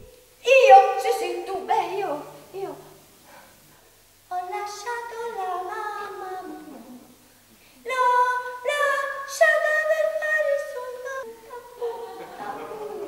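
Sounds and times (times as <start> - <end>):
woman singing unaccompanied: 0.4 - 3.0, 4.3 - 7.2, 7.8 - 13.0.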